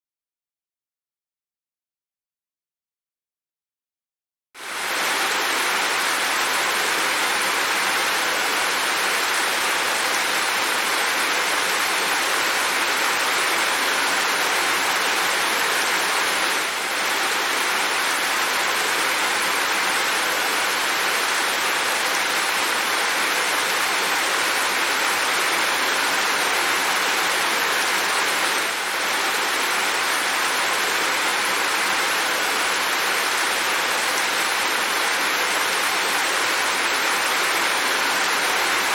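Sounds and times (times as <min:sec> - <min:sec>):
steady rain falling: 0:04.6 - 0:38.9.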